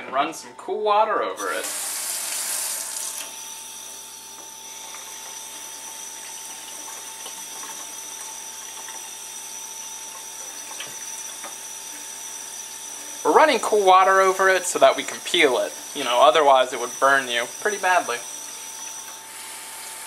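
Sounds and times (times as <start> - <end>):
faucet water running into sink: 1.4 - 20.0.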